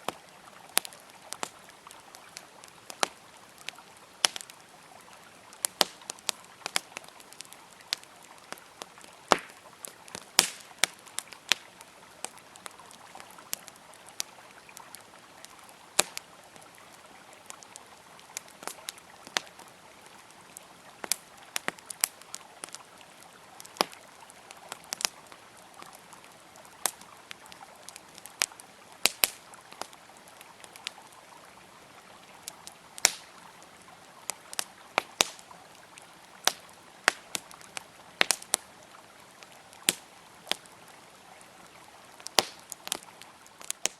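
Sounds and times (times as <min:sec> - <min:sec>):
campfire crackling and popping: 0:00.0 - 0:43.9
river flowing: 0:00.0 - 0:43.9.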